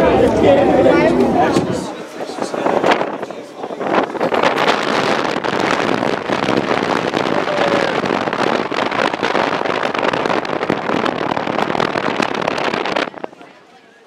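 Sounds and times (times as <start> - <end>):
loud crackling noise: 0.0 - 14.0.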